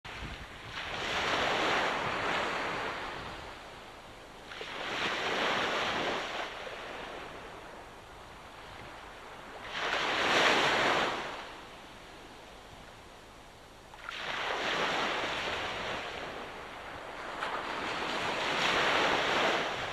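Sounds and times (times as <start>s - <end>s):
ocean waves breaking on shore: 0.1s - 19.9s.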